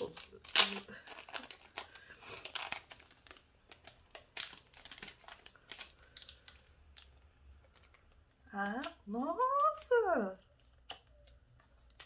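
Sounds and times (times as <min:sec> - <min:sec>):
packaging crinkling and tearing: 0:00.0 - 0:12.0.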